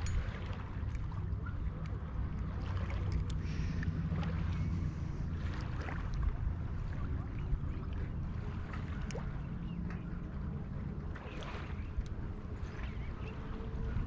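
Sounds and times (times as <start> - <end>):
wind rumbling over water: 0.0 - 14.0.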